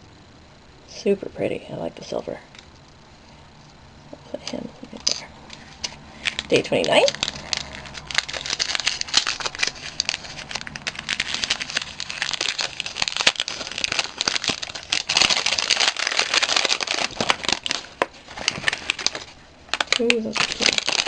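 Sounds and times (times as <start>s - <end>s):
paper wrapping crinkling: 2.6s - 21.0s.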